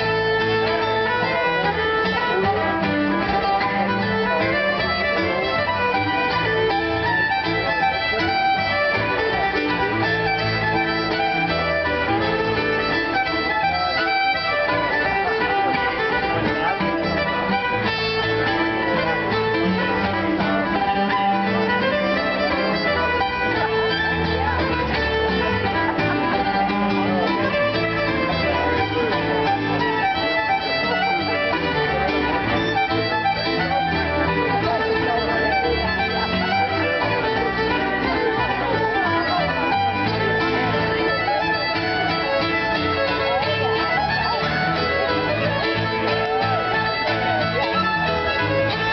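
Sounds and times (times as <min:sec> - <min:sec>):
fiddle playing a fast tune: 0:00.0 - 0:48.9
rhythmic piano accompaniment: 0:00.0 - 0:48.9.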